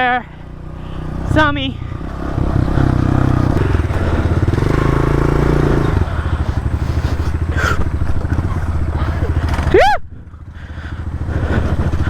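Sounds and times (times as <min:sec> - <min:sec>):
dirt bike engine: 0:00.0 - 0:12.0.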